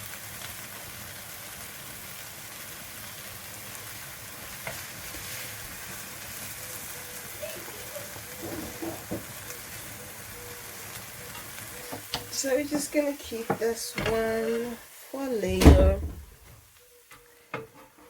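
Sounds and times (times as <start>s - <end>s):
gravy sizzling in pot: 0.0s - 15.6s, 16.3s - 18.0s.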